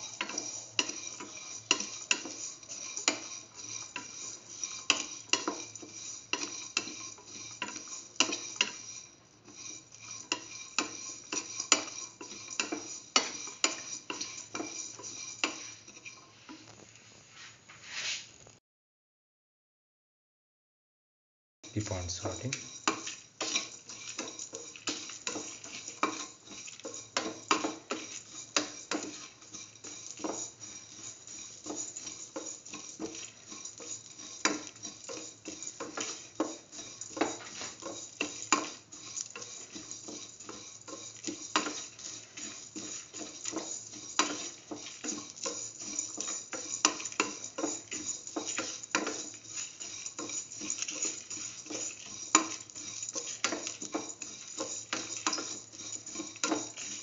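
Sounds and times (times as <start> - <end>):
utensil scraping steel pan: 0.0 - 16.7, 21.7 - 57.0
sizzle of frying in oil: 0.0 - 18.6, 21.7 - 57.0.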